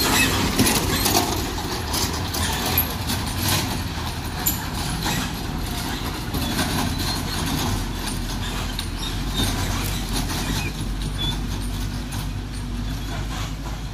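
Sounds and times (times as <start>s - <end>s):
vehicle engines humming: 0.0s - 13.9s.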